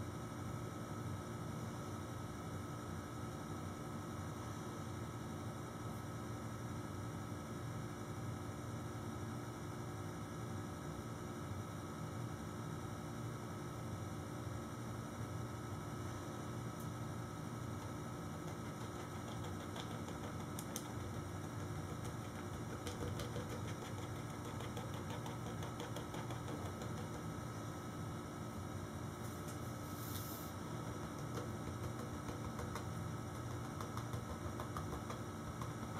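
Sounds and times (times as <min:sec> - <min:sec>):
low electrical hum: 0:00.0 - 0:35.9.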